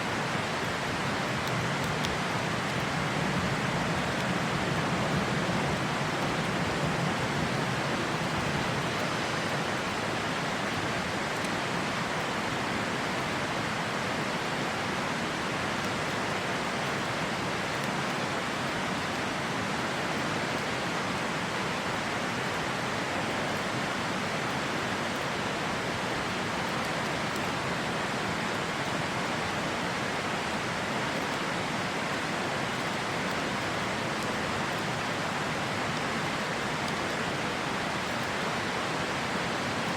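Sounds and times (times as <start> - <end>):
campfire crackling: 0.0 - 39.9
river water rushing: 0.0 - 39.9.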